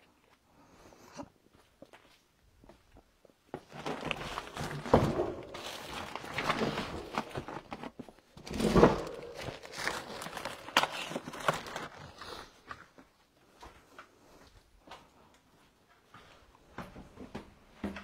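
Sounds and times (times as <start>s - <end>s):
footsteps: 0.2s - 10.6s, 11.6s - 18.0s.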